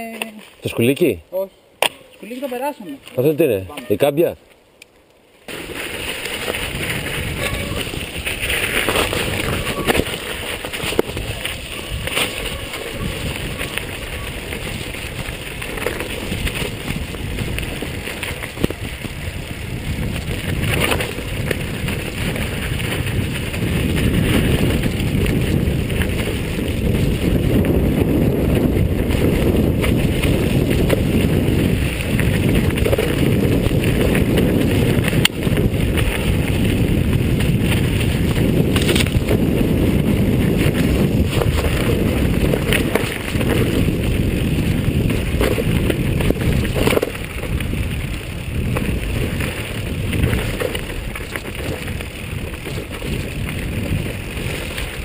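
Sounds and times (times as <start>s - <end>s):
bike tyres rumbling on trail: 5.3s - 55.0s
bike rattling: 5.4s - 55.0s.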